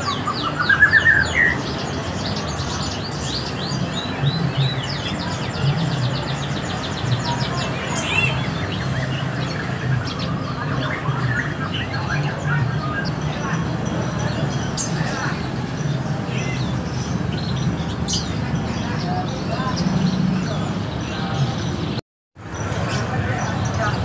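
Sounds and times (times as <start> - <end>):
songbirds chirping and twittering: 0.0 - 24.0.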